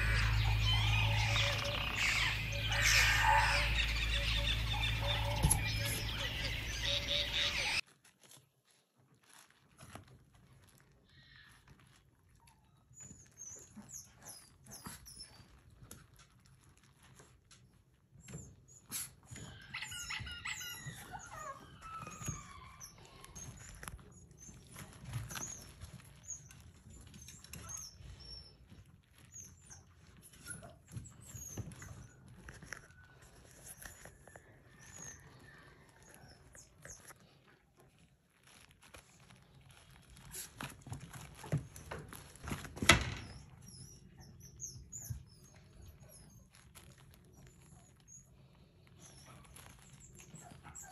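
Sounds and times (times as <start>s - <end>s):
puppies squeaking and whimpering: 0.0s - 7.8s, 10.6s - 50.9s
puppy whining: 0.0s - 7.8s, 10.6s - 50.9s.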